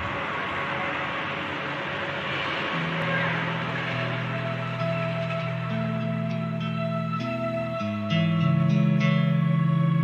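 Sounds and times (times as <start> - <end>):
even rushing noise: 0.0 - 8.4
low sustained music notes: 0.0 - 10.0.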